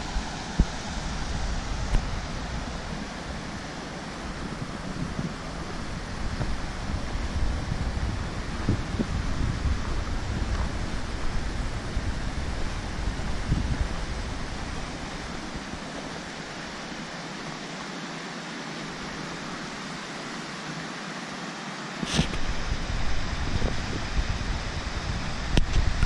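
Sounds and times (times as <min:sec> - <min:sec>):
wind buffeting microphone: 0:00.0 - 0:17.2, 0:22.1 - 0:26.0
creek rushing: 0:00.0 - 0:26.0.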